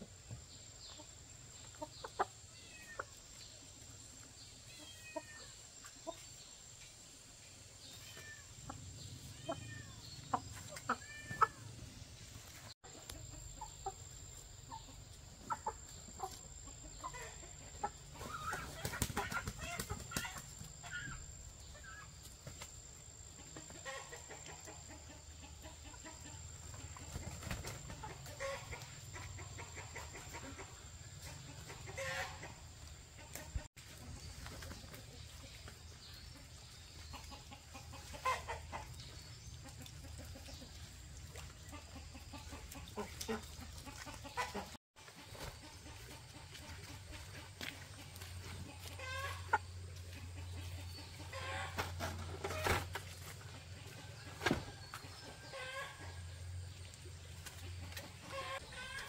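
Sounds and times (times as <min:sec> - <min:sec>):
chickens clucking: 0:00.0 - 0:06.8, 0:07.8 - 0:59.0.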